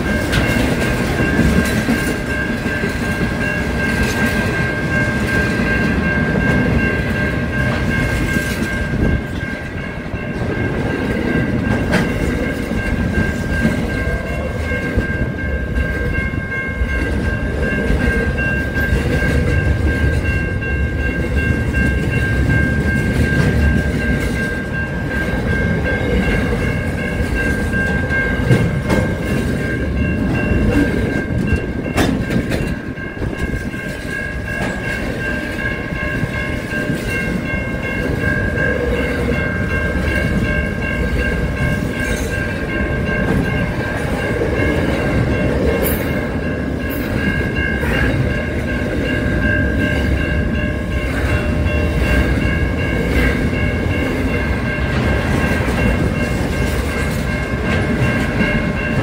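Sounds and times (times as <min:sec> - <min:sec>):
freight train rumbling and clattering: 0:00.0 - 0:59.0.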